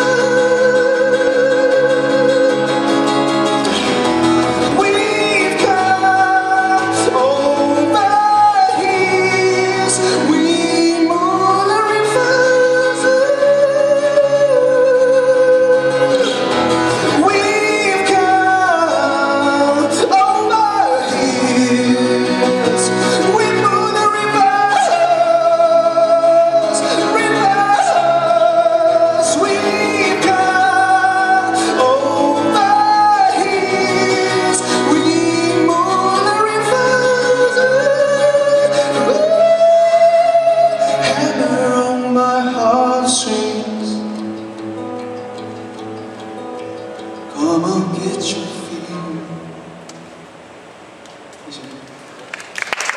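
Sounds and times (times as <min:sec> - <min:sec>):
man singing: 0:00.0 - 0:45.5, 0:47.3 - 0:49.6
strummed acoustic guitar: 0:00.0 - 0:50.4.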